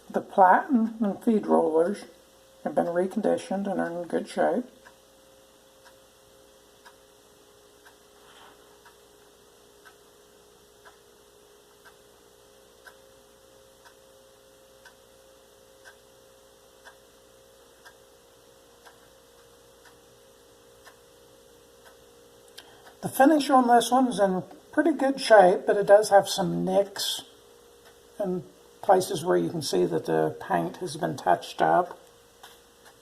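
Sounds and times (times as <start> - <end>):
faint ticking: 0.0 - 8.2, 8.8 - 33.0.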